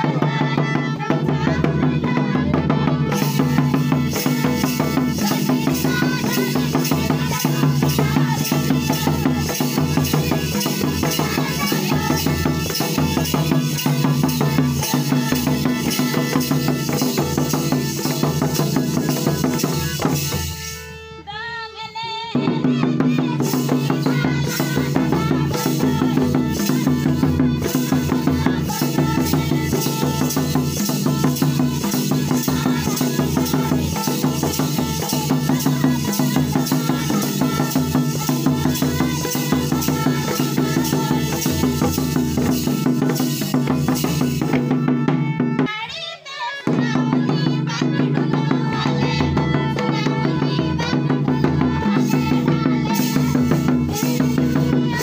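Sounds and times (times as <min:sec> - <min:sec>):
fast drumming: 0:00.0 - 0:20.7, 0:22.4 - 0:45.8, 0:46.6 - 0:55.0
folk dance music: 0:00.0 - 0:55.0.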